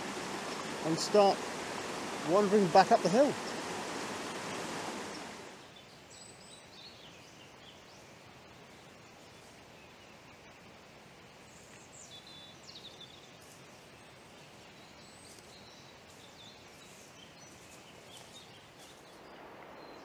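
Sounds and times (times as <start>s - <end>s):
small birds chirping: 0.0s - 10.4s, 11.3s - 20.0s.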